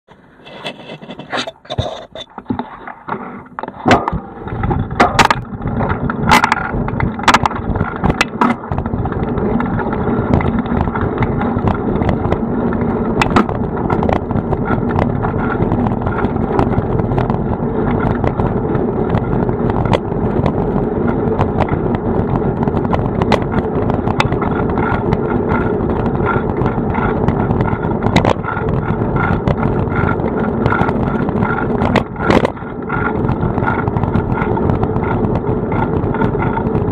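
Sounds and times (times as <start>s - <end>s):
tyre rumble: 0.1s - 36.9s
wind on microphone: 3.7s - 36.9s.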